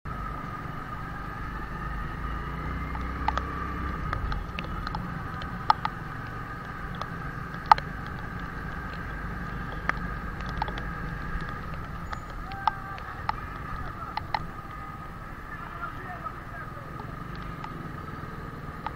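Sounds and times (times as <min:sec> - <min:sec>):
motorcycle engine hum: 0:00.1 - 0:18.9
raindrops ticking on camera: 0:00.8 - 0:18.9.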